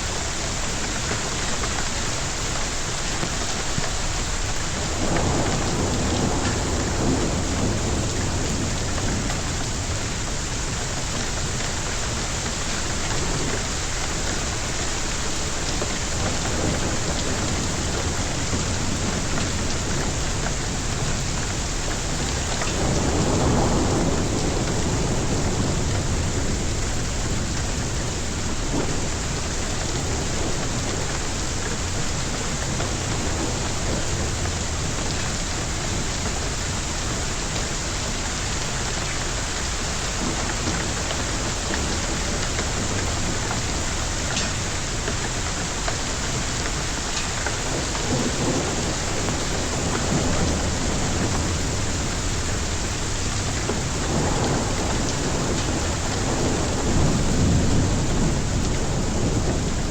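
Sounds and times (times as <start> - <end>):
heavy rain pouring: 0.0 - 59.9
thunder rumbling: 0.0 - 59.9.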